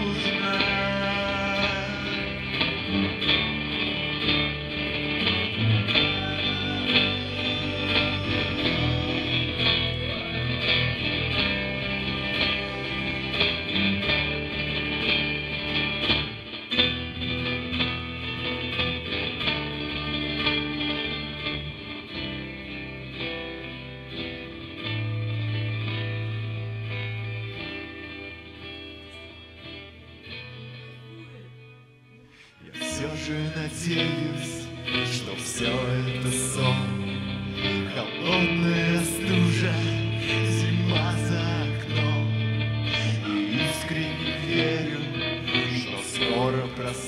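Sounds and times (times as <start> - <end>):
bass: 0.0 - 47.0
electric guitar: 0.0 - 47.0.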